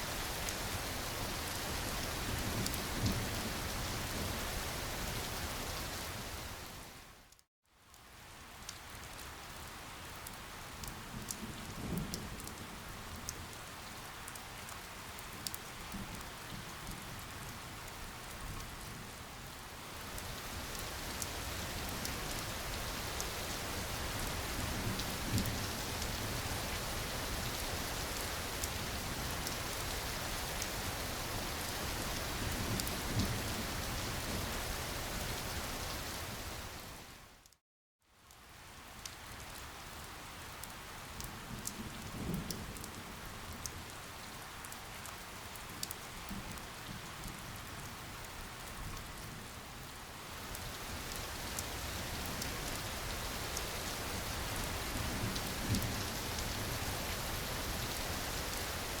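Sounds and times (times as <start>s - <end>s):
rain pattering: 0.0s - 37.6s, 38.2s - 59.0s.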